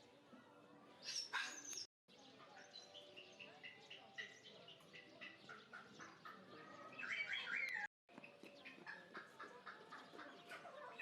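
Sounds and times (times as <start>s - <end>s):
birds chirping: 1.0s - 11.0s.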